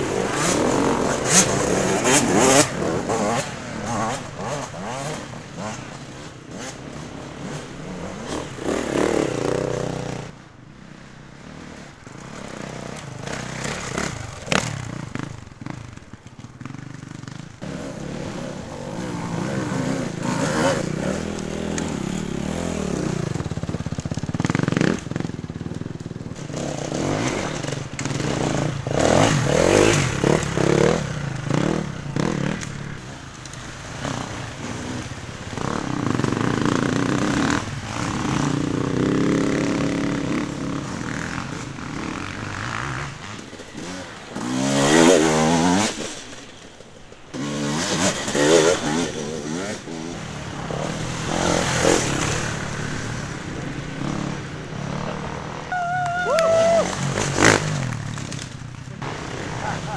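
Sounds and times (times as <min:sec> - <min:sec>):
dirt bike engines revving past: 0:00.0 - 0:59.9.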